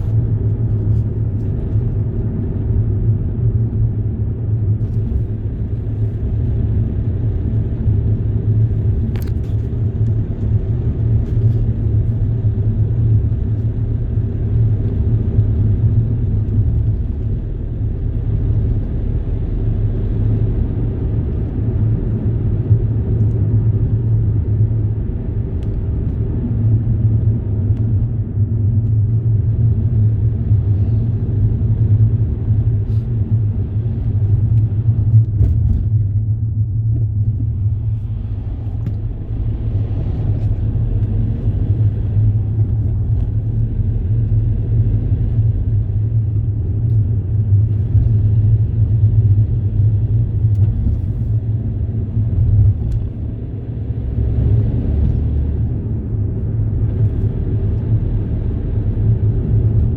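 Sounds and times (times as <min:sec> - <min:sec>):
road vehicle rumbling: 0:00.0 - 0:59.9.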